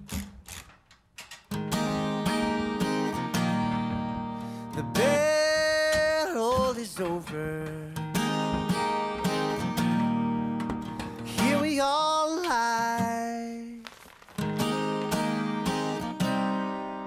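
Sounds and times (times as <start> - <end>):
song with strummed acoustic guitar: 1.4 - 17.0.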